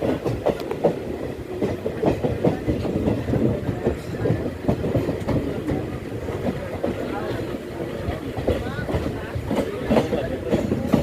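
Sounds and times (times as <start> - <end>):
low train rumble: 0.0 - 11.0
train wheels clattering over rail joints: 0.0 - 11.0.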